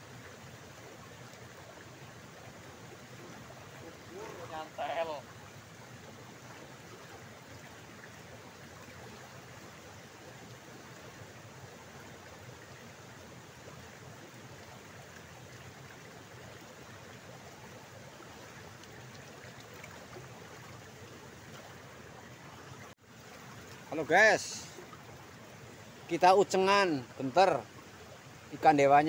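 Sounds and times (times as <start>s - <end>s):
water running in stone channel: 0.0s - 29.0s.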